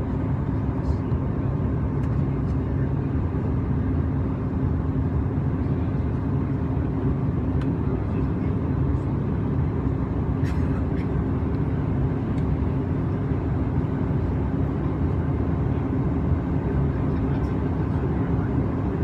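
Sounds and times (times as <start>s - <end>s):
jet cabin engine rumble: 0.0s - 19.0s.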